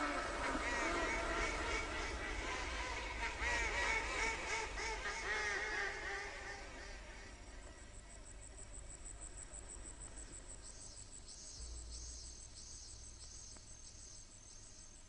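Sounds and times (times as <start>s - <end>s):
lower cricket chirp: 0.0s - 15.0s.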